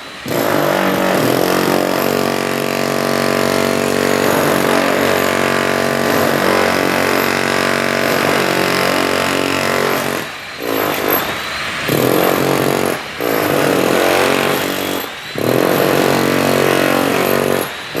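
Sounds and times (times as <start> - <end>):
power drill motor whining: 0.2 - 18.0.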